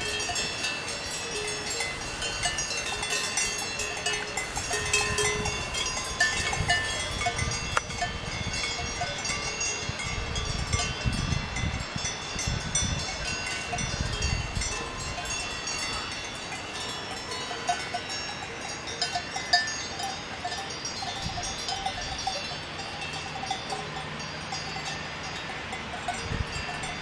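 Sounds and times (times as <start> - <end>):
cattle bells clanking: 0.0 - 27.0.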